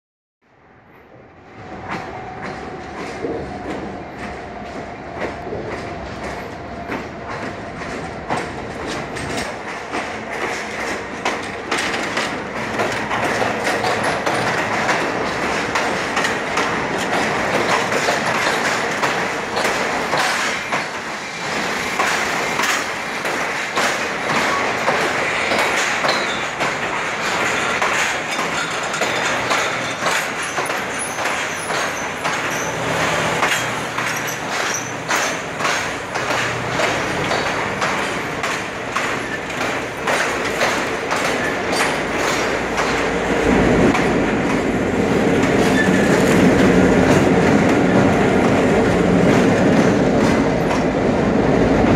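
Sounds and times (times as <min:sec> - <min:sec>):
train wheels clicking over rails: 0:01.0 - 0:51.9.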